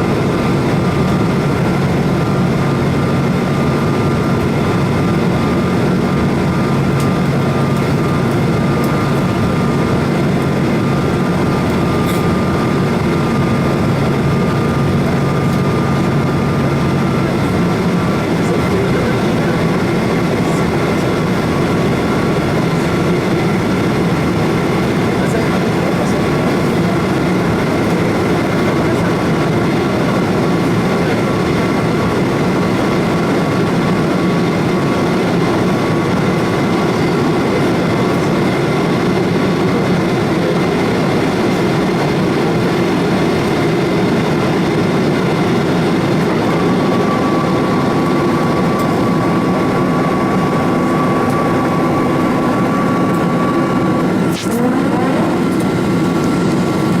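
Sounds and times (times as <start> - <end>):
jet engines at high power: 0.0 - 57.0.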